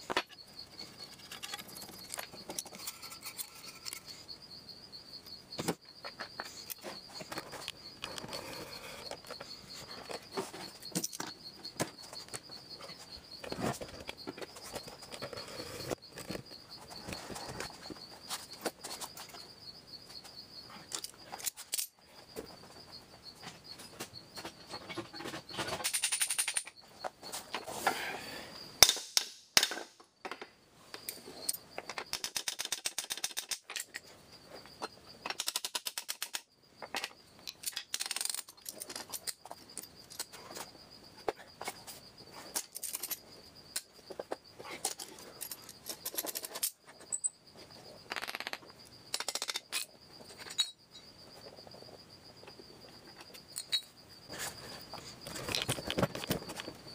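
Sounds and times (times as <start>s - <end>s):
cricket chirping: 0.0s - 56.9s.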